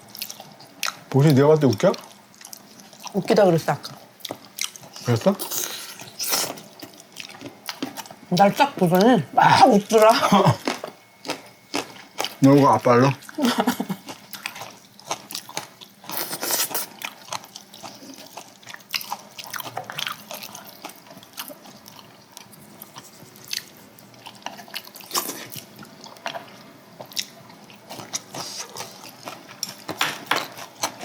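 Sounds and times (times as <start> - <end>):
wet chewing and crunching: 0.0 - 31.0.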